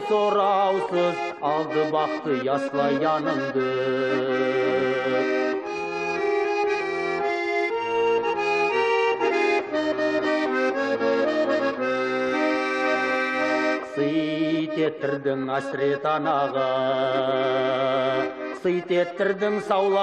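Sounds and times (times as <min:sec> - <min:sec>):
accordion melody: 0:00.0 - 0:20.0.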